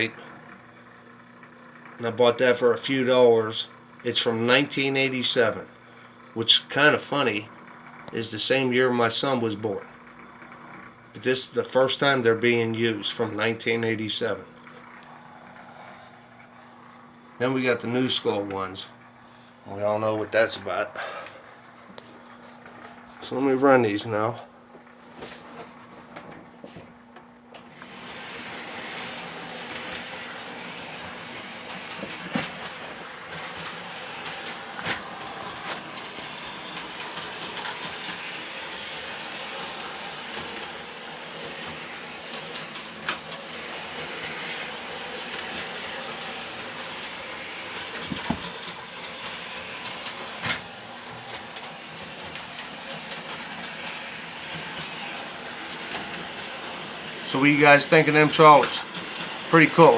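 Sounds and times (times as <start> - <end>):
model trolley motors whirring: 0.0 - 22.1, 27.5 - 59.9.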